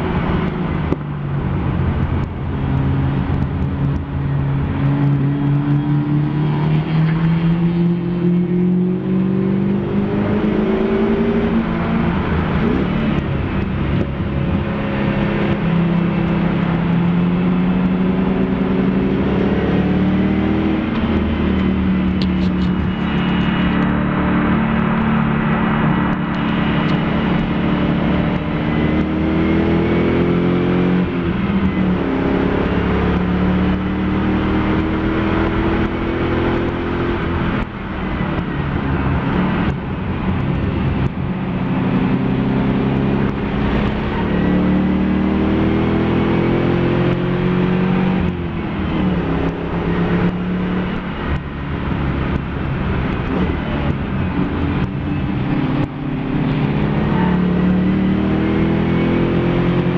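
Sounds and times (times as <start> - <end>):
race car engine revving through gears: 1.6 - 59.9.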